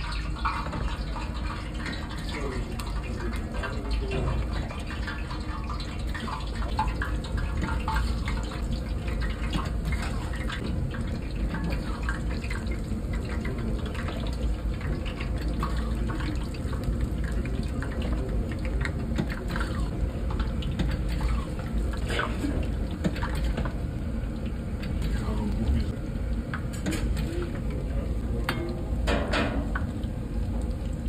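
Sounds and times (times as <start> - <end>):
batter sizzling in hot oil: 0.0 - 31.0.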